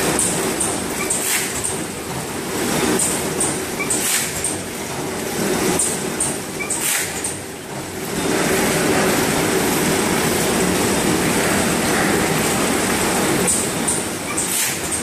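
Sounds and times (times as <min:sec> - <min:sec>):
packing machine rumble: 0:00.0 - 0:15.0.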